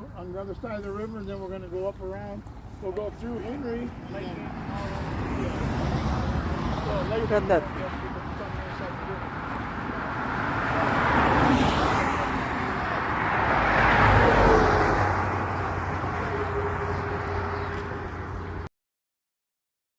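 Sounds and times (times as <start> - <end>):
road and traffic rumble: 0.0 - 18.7.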